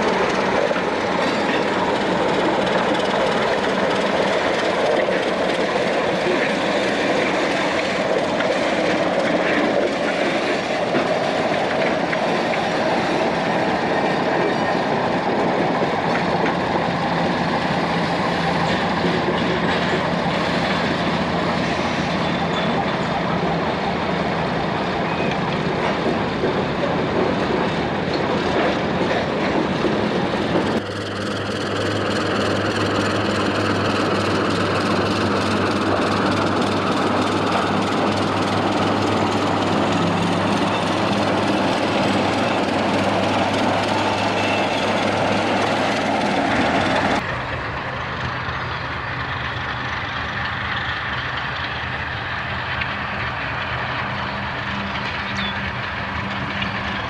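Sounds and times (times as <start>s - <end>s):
diesel locomotive engine drone: 0.0s - 57.0s
rail noise: 0.0s - 57.0s.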